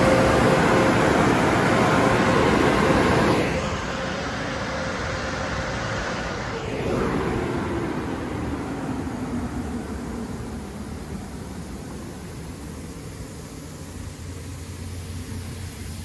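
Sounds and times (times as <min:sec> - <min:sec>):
dryer blowers rushing air: 0:00.0 - 0:16.0.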